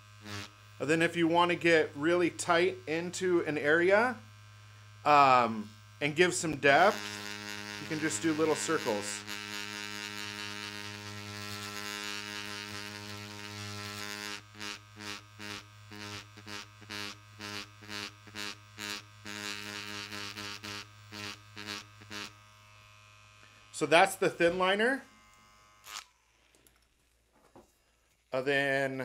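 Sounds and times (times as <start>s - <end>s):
tattoo machine buzzing: 0.0s - 27.0s.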